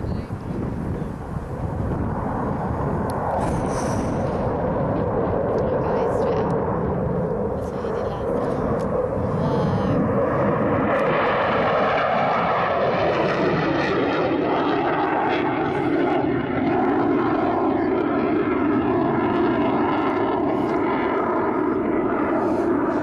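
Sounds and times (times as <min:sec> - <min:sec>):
jet fighter flying past: 0:00.0 - 0:23.0.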